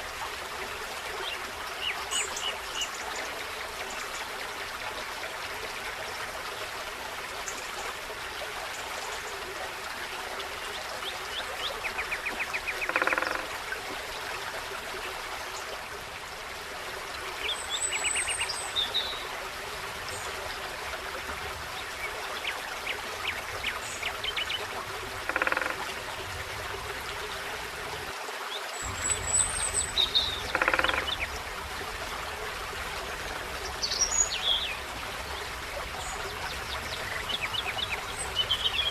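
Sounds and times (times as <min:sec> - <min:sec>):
forest stream babbling: 0:00.0 - 0:38.9.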